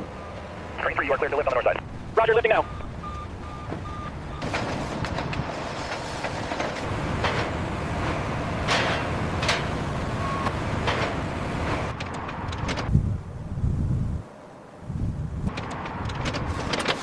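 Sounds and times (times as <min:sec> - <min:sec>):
heavy machinery rumbling: 0:00.0 - 0:14.2.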